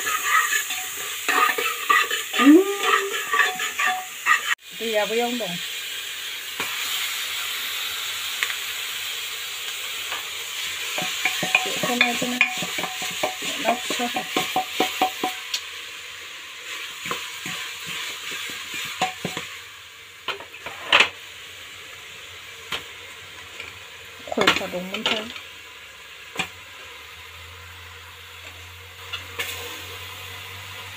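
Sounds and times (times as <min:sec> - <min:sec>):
sizzling hiss: 0:00.0 - 0:30.9.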